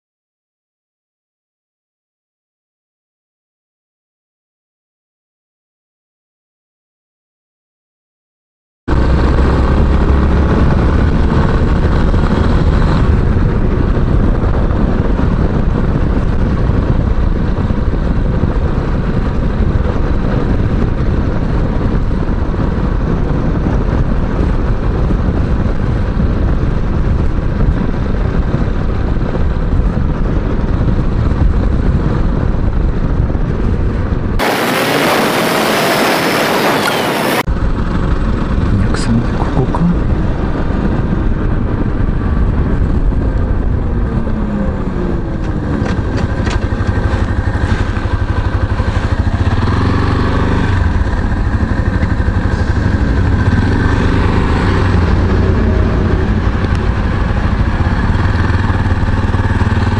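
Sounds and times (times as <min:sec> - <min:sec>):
motorcycle engine running: 0:08.9 - 0:59.9
wind and road noise: 0:08.9 - 0:59.9.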